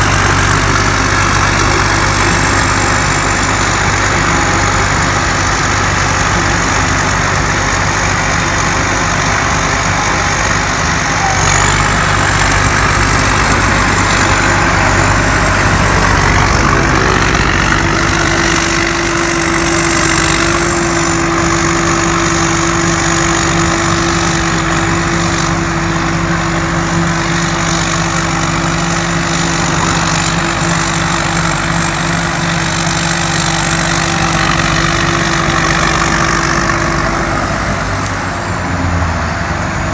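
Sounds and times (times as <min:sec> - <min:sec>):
combine harvester engine drone: 0:00.0 - 0:39.9
high blower whine: 0:00.0 - 0:39.9.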